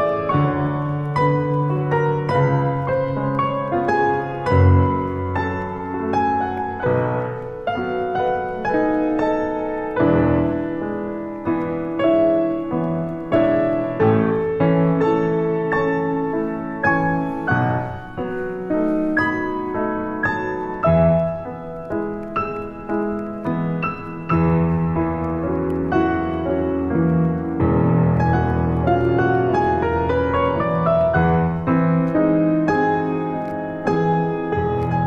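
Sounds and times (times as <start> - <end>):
slow solo piano piece: 0.0 - 35.0.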